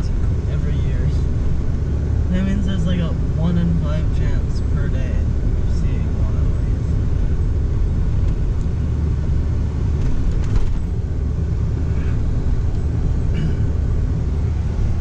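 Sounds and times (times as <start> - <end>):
road and engine rumble inside truck: 0.0 - 15.0.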